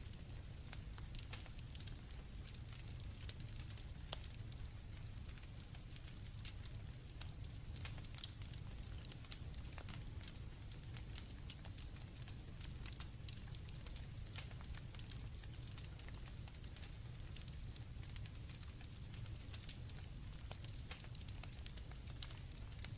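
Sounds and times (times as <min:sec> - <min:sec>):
campfire crackling and popping: 0:00.0 - 0:22.9
crickets chirping: 0:00.1 - 0:22.9.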